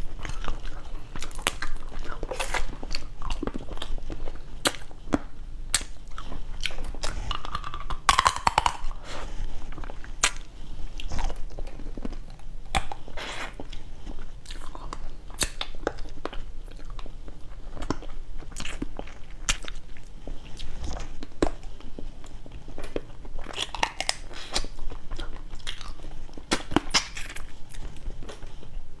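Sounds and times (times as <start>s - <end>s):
chewing: 0.0s - 28.7s.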